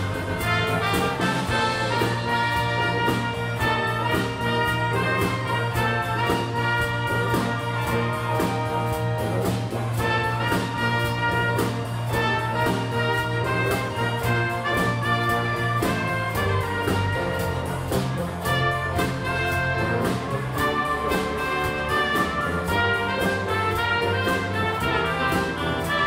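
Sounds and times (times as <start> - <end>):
small ensemble playing a tune: 0.0 - 26.0.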